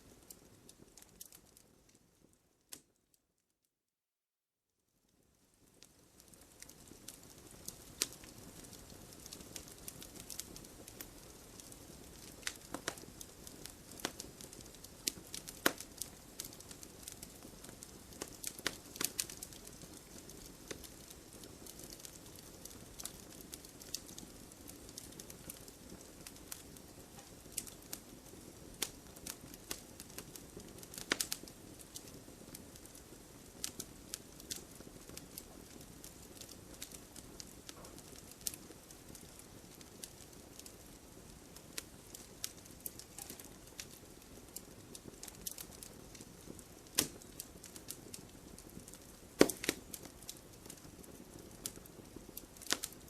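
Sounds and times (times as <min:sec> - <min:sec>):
campfire crackling: 0:00.0 - 0:03.0, 0:05.4 - 0:53.0
burning wood popping: 0:06.2 - 0:53.0.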